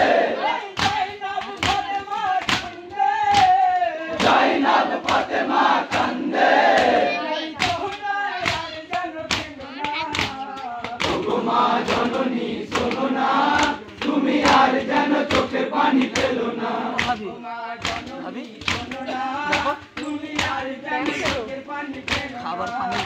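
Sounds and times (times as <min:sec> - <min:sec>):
men singing a lament: 0:00.0 - 0:23.0
hands beating chests: 0:00.1 - 0:23.0.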